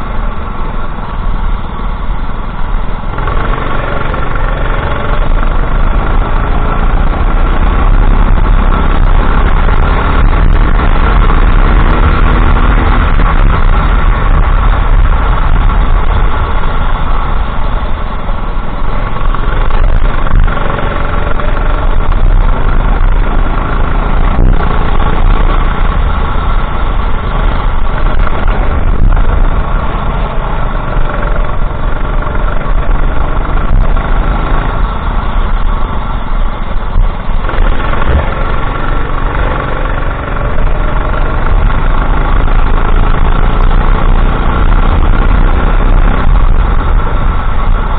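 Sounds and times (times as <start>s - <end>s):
go-kart engine accelerating: 2.8s - 47.9s.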